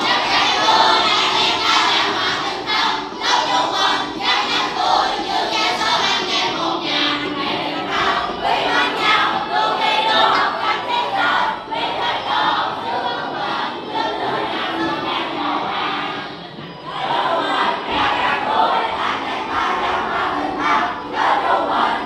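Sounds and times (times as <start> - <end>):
children singing together: 0.0 - 22.0
karaoke music track: 0.0 - 22.0.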